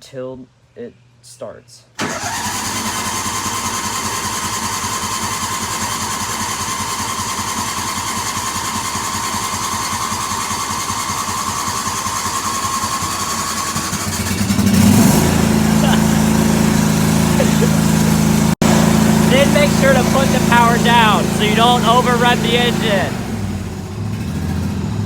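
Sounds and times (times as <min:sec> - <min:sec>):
lawn tractor engine running: 0:02.0 - 0:25.0.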